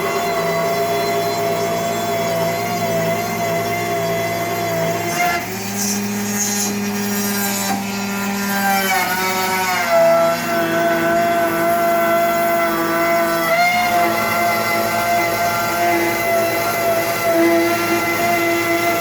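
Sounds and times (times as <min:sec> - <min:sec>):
motors gliding in pitch: 0:00.0 - 0:19.0
router spindle whine cutting wood: 0:00.0 - 0:19.0.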